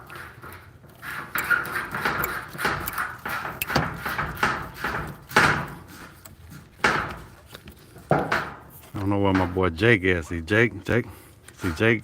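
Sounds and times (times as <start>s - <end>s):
knocks and scrapes from tools: 0.0s - 9.6s.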